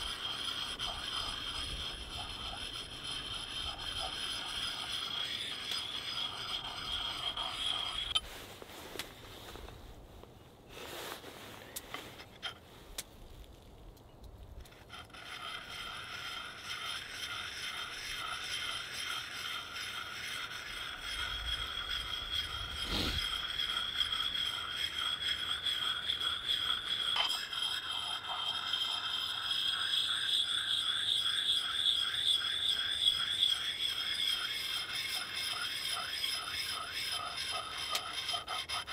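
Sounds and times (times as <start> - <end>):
stone scraping on steel: 0.0 - 8.3, 14.6 - 38.9.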